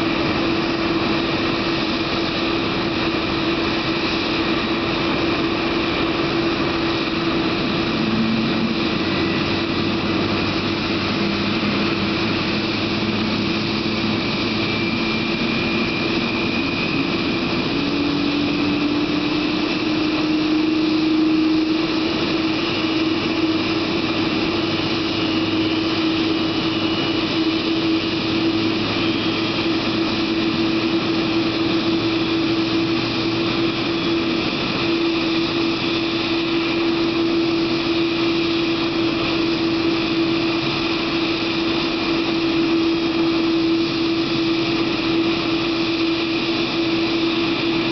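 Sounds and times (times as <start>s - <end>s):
constant rushing noise: 0.0s - 47.9s
jet engine whining: 0.0s - 47.9s.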